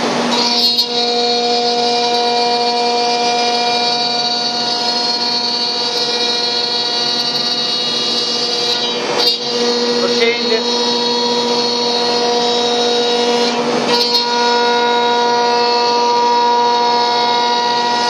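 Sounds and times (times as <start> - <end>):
router spindle whining: 0.0 - 18.0.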